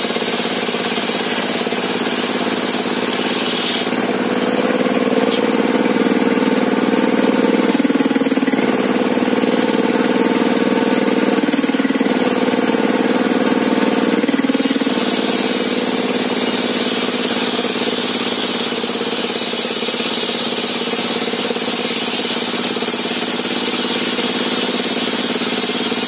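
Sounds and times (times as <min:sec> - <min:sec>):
table saw engine running: 0:00.0 - 0:26.0.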